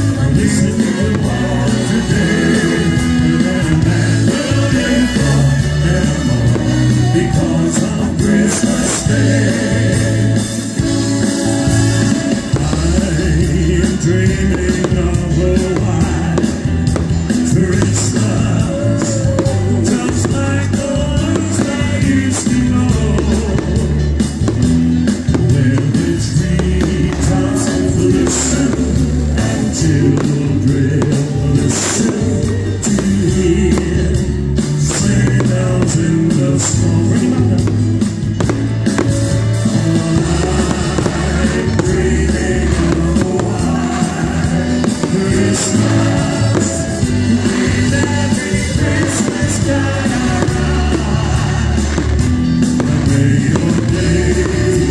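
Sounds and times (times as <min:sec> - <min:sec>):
band music with singing: 0:00.0 - 0:54.9
bass line: 0:00.0 - 0:54.9.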